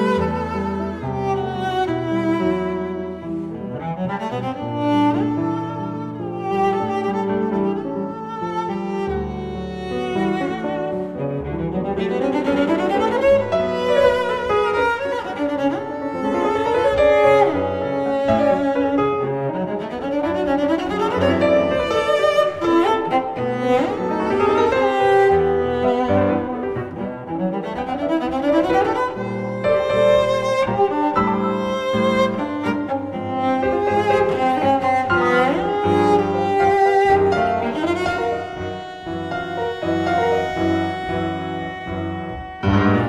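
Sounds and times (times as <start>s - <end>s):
bowed strings melody: 0.0s - 43.0s.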